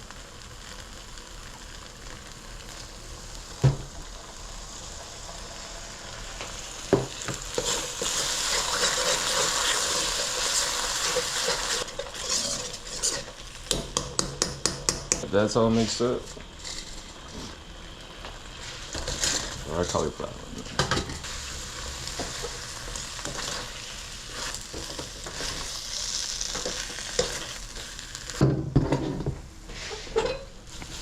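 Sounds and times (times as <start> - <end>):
sauce sizzling in hot oil: 0.0 - 31.0.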